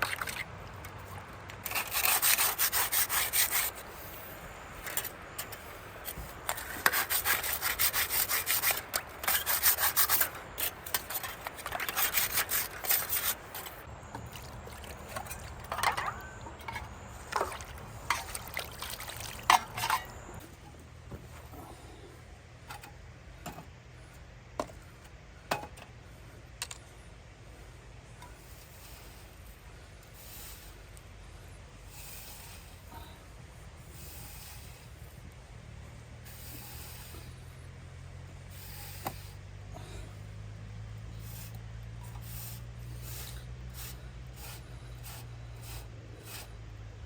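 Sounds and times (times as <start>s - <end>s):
back-and-forth scraping: 0.0s - 37.6s, 38.4s - 47.0s.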